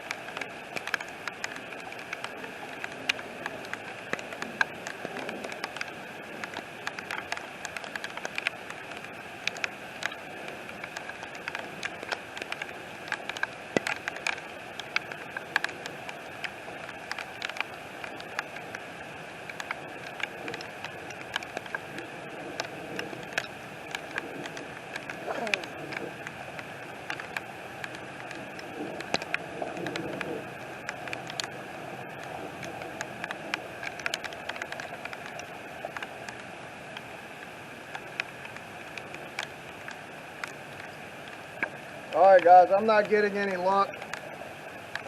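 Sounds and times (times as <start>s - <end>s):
heavy rain falling: 0.0s - 45.0s
raindrops ticking close by: 0.0s - 45.0s.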